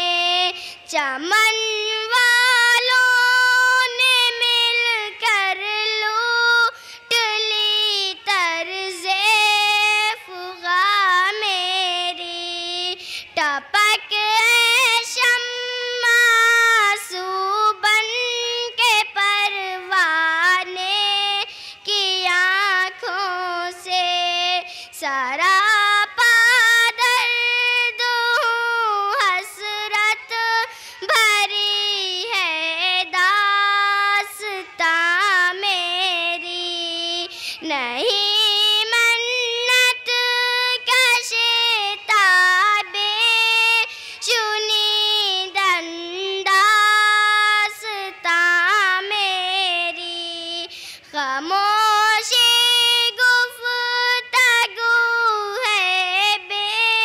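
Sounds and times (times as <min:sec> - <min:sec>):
girl singing into microphone: 0:00.0 - 0:57.0.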